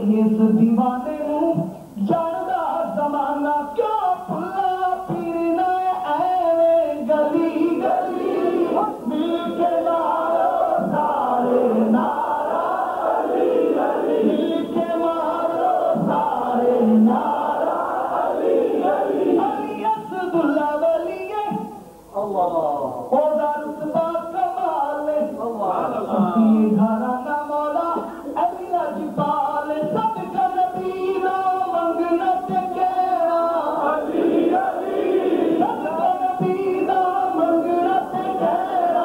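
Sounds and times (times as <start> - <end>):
male chorus singing unaccompanied: 2.1 - 21.7, 23.2 - 39.0.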